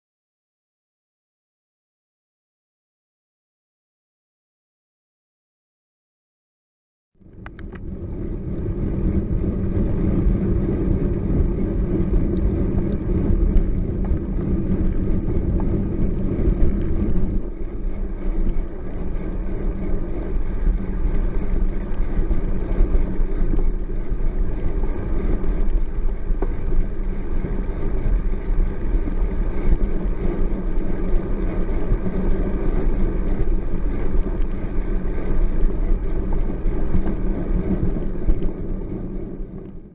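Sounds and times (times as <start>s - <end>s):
bicycle tyre rumble: 7.2s - 39.9s
wind on microphone: 7.2s - 39.9s.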